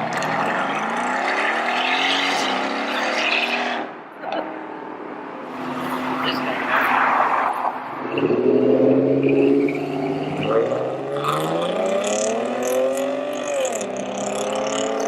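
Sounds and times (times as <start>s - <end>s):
car engine revving: 0.0s - 4.0s, 5.4s - 15.0s.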